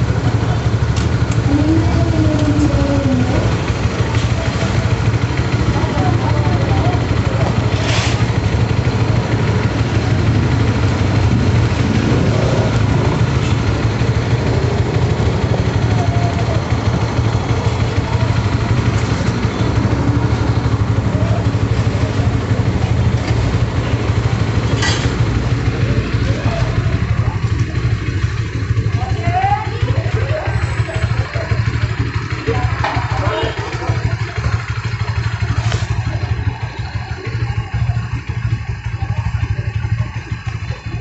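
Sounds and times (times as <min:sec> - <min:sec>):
motorcycle engine idling: 0:00.0 - 0:41.0.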